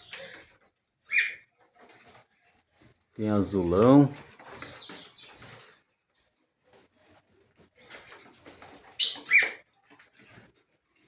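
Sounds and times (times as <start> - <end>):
caged songbirds chirping: 0.0 - 11.0.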